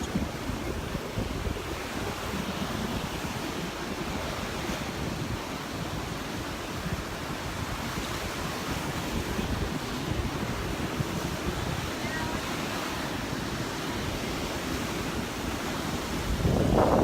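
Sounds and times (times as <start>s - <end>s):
surf washing onto sand: 0.0s - 17.0s
wind buffeting microphone: 0.0s - 17.0s.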